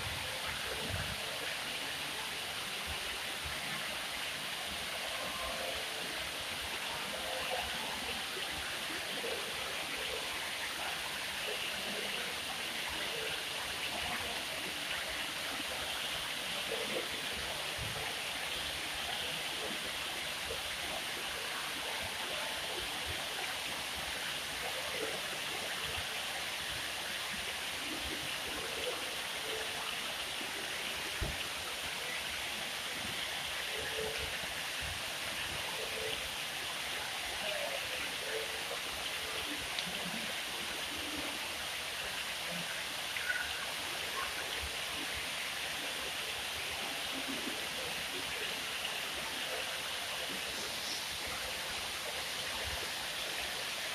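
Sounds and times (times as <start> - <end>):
fountain water splashing: 0.0 - 53.9.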